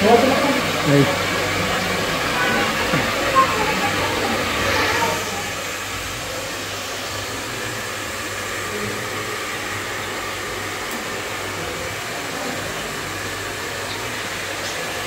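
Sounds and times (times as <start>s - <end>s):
electric blower air rush: 0.0s - 15.0s
low motor hum: 0.0s - 15.0s.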